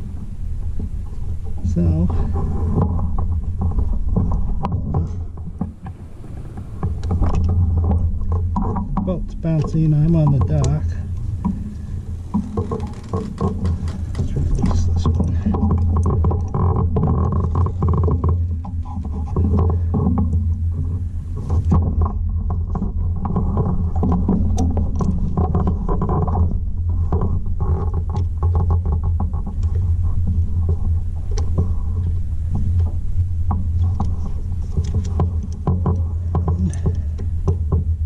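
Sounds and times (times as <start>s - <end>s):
light clicks and knocks: 0.0s - 38.0s
low machine hum: 0.0s - 38.0s.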